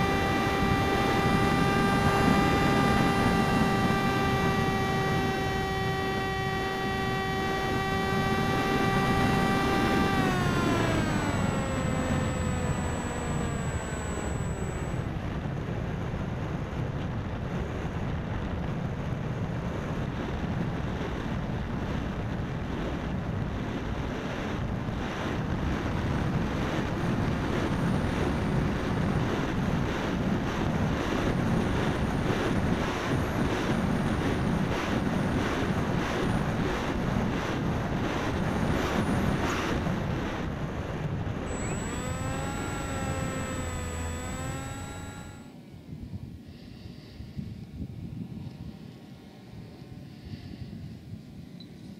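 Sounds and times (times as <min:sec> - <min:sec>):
electric motor and propeller: 0:00.0 - 0:51.9
wind rushing over camera: 0:00.0 - 0:51.9.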